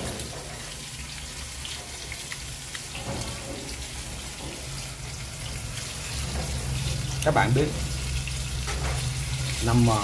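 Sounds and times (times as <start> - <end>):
fritters sizzling in hot oil: 0.0 - 10.0.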